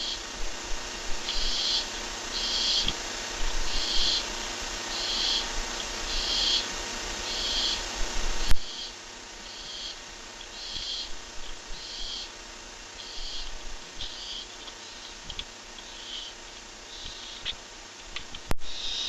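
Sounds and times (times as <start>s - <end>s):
owl hissing calls: 0.0s - 17.8s, 18.6s - 19.0s
faint steady hum: 0.0s - 19.0s.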